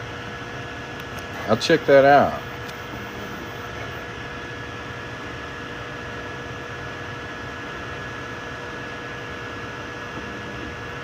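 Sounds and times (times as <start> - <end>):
fan hum: 0.0 - 11.0
printer motor whine: 0.0 - 11.0.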